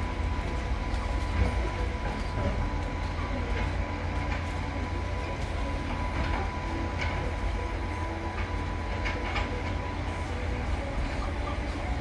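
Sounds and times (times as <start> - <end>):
garbage truck diesel engine rumbling: 0.0 - 12.0.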